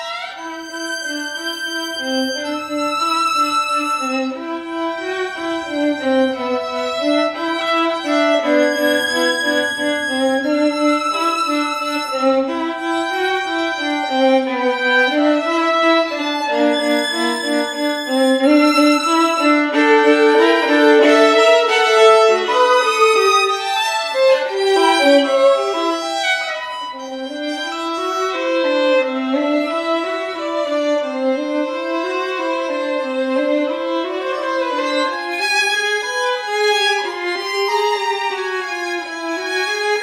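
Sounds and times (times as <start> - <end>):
violin duet: 0.0 - 40.0.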